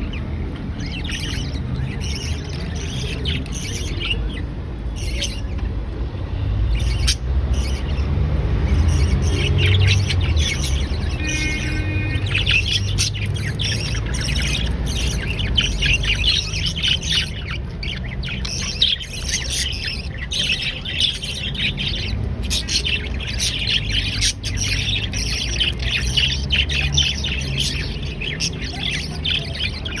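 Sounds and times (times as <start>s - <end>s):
budgerigars chirping and chattering: 0.0s - 30.0s.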